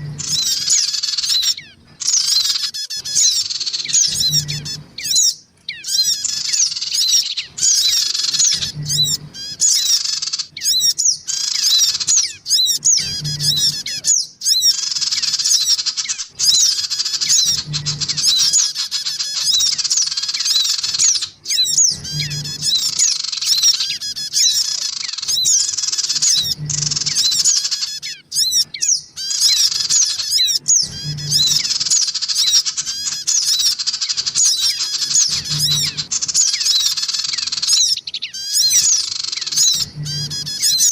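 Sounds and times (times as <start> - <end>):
birds chirping and squawking: 0.0 - 40.9.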